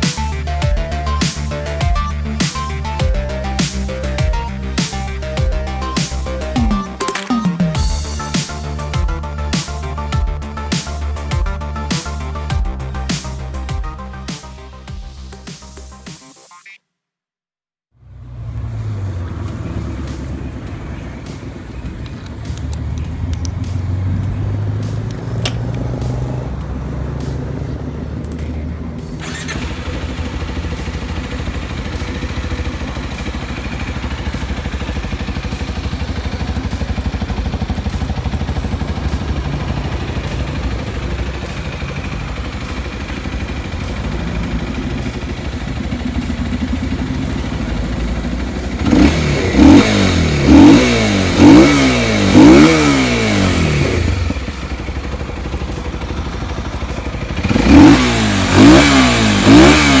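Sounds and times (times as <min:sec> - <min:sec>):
motorcycle engine idling and revving: 0:00.0 - 0:16.2, 0:17.9 - 1:00.0.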